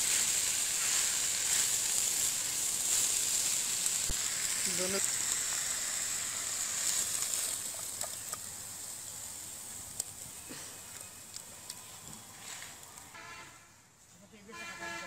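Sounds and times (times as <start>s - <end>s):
food sizzling in a wok: 0.0s - 13.4s.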